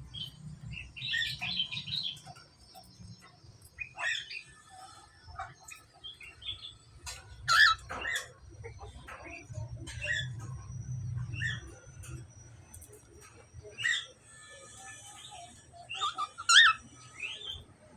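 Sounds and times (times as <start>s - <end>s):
budgerigars chirping and chattering: 0.0s - 17.8s.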